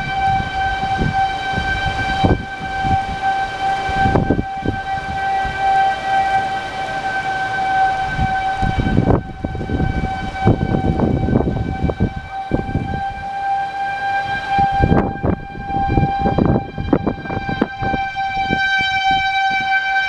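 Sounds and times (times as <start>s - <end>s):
low rumbling: 0.0s - 19.3s
tornado warning siren: 0.0s - 20.0s.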